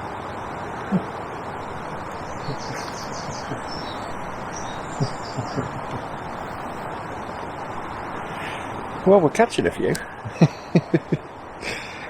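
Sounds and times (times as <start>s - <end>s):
steady outdoor hiss: 0.0s - 12.0s
small birds chirping: 0.7s - 11.5s.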